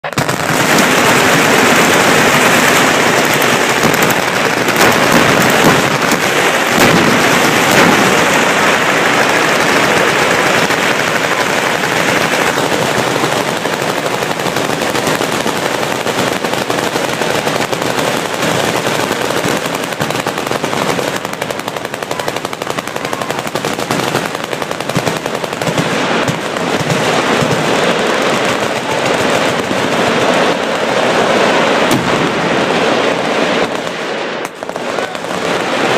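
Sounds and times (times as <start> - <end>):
machine guns firing: 0.0 - 35.9.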